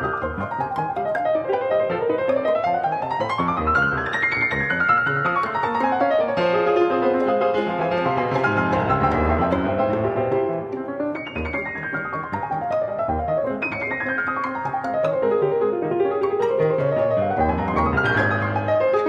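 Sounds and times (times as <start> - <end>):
piano music with rapid runs: 0.0 - 19.0.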